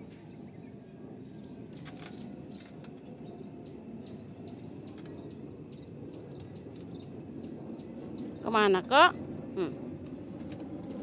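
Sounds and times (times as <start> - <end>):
small birds chirping: 0.0 - 10.2
low background hum: 0.0 - 11.0.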